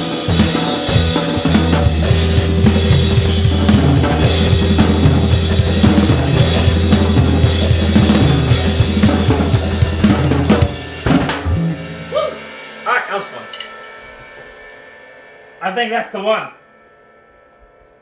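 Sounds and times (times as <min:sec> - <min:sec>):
drum kit played fast: 0:00.0 - 0:14.7
rock music with low bass: 0:00.0 - 0:15.7.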